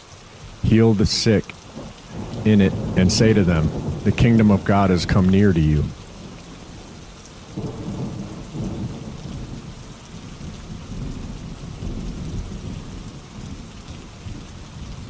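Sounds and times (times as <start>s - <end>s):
rain falling: 0.0s - 15.0s
low rolling thunder: 1.6s - 15.0s.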